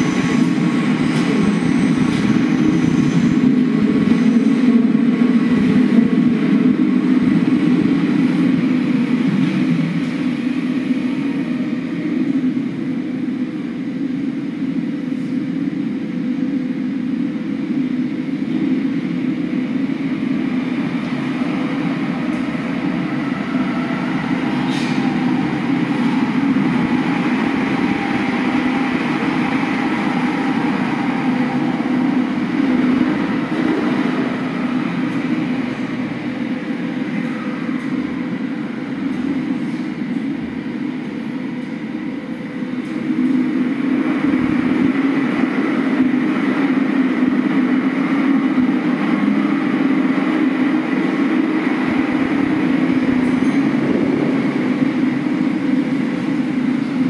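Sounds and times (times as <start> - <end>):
low rumbling noise: 0.0 - 57.0.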